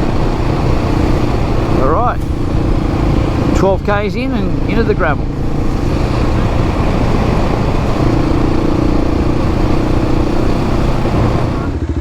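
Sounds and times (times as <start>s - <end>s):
motorcycle engine running: 0.0s - 12.0s
wind and tyre noise: 0.0s - 12.0s.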